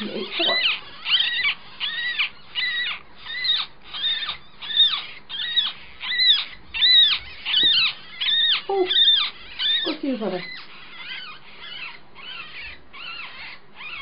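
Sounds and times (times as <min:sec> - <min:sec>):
ferret kit squeaking: 0:00.0 - 0:14.0.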